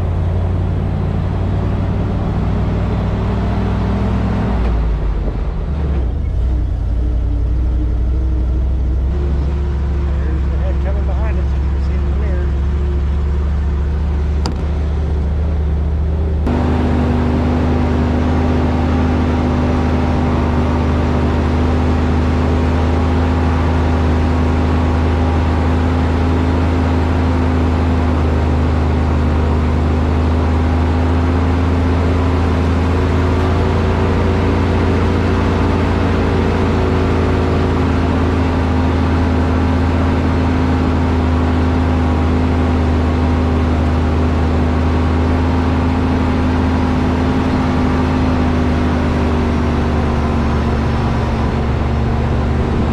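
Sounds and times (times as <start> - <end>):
heavy vehicle engine droning: 0.0 - 52.9.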